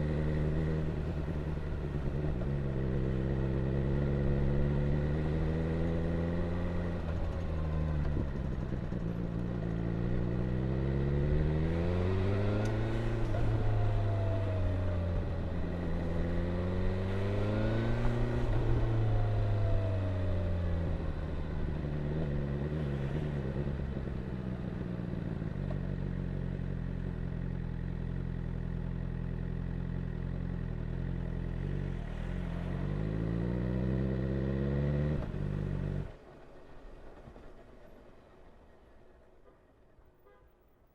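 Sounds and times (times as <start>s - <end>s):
motorcycle engine revving: 0.0s - 24.3s, 25.0s - 36.2s.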